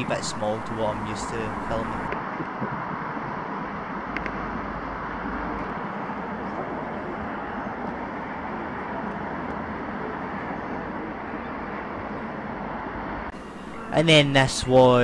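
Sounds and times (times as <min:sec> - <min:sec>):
outdoor urban background noise: 0:00.0 - 0:15.0.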